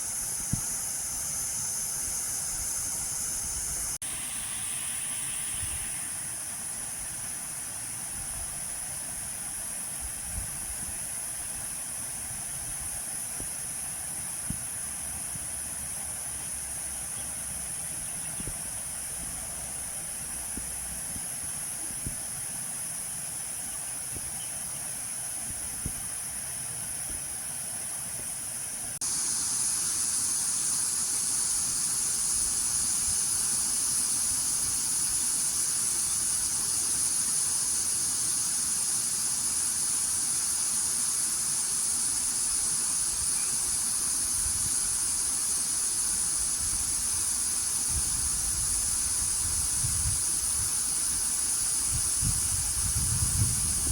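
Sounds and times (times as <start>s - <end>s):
cicada chorus buzzing: 0.0s - 53.9s.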